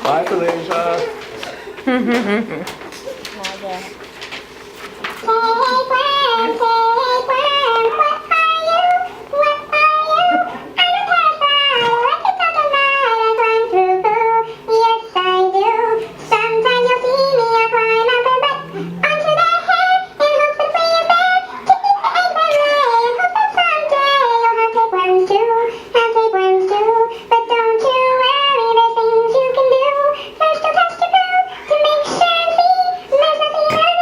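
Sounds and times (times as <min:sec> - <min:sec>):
high voice singing a jingle: 0:05.3 - 0:34.0.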